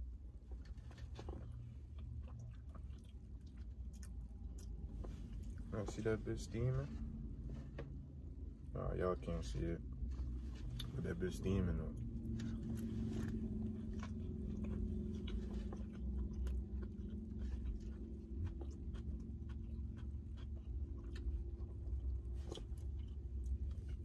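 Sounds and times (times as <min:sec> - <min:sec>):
person chewing food: 0:00.0 - 0:06.2, 0:09.8 - 0:24.0
steady low hum: 0:00.0 - 0:24.0.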